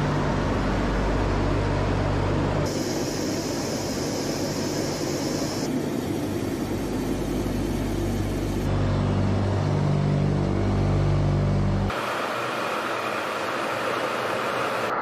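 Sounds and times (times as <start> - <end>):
turboprop aircraft cabin drone: 0.0 - 15.0.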